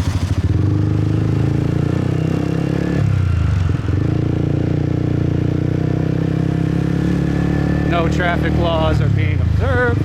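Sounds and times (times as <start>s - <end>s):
motorbike engine running: 0.0s - 10.0s.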